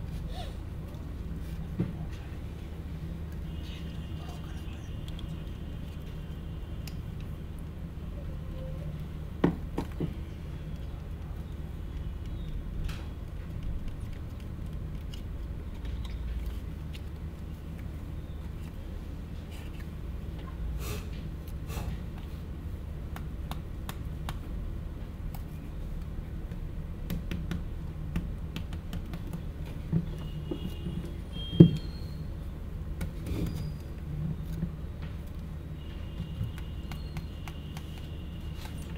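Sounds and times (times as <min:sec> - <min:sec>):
low room hum: 0:00.0 - 0:38.9.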